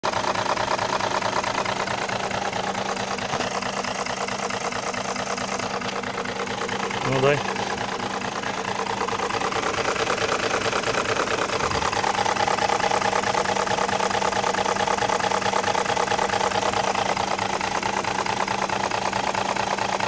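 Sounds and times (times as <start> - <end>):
car engine idling: 0.0 - 20.0
rapid knocking rattle: 0.0 - 20.0.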